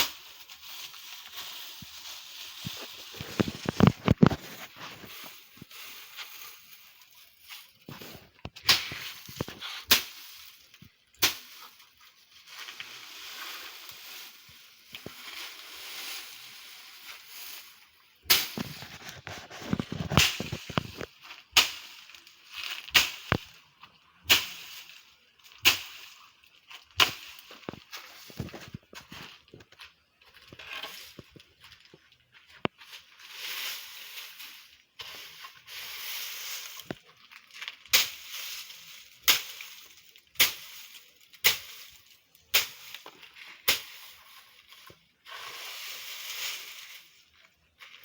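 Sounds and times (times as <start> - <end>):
scraping and rustling: 0.0 - 48.0.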